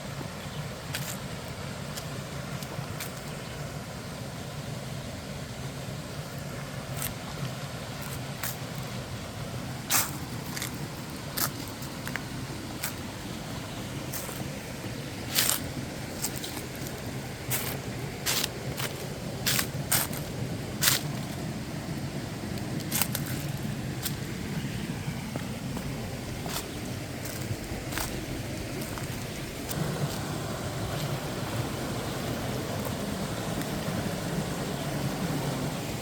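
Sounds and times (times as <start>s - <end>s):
waterfall rushing: 5.2s - 36.0s.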